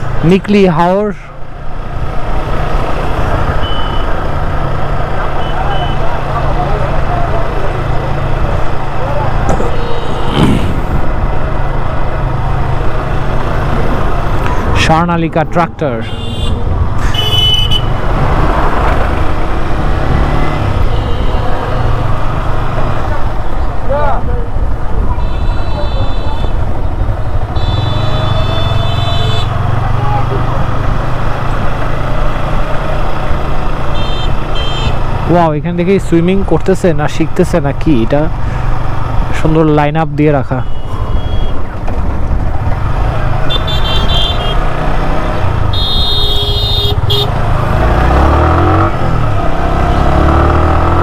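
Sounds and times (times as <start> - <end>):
vehicle rumbling on a road: 0.0 - 51.0.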